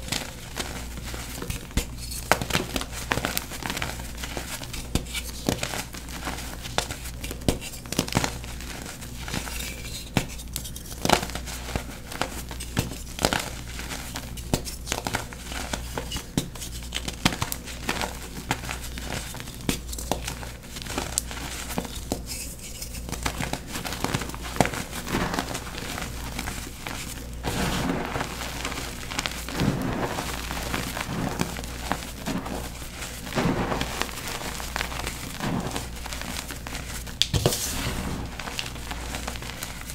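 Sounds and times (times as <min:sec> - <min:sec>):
chalk crumbling and crackling: 0:00.0 - 0:39.9.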